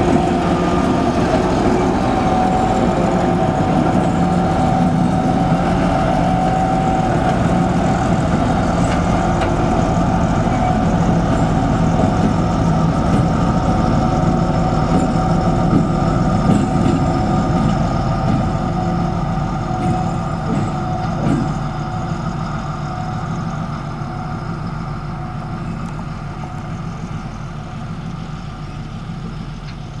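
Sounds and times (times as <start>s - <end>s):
diesel locomotive engine running: 0.0s - 30.0s.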